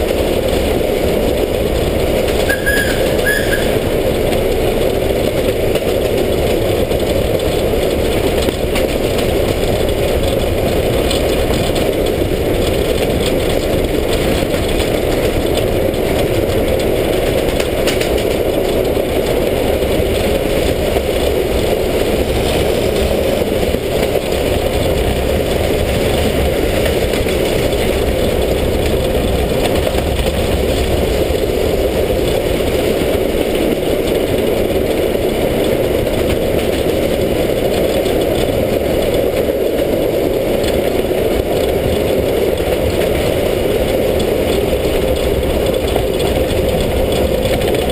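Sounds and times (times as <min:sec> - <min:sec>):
steam locomotive wheels on rails: 0:00.0 - 0:47.9.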